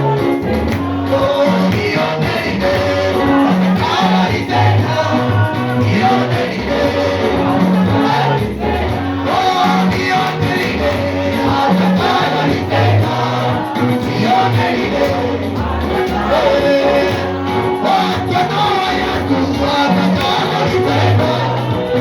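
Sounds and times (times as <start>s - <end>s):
gospel band with singing: 0.0s - 22.0s.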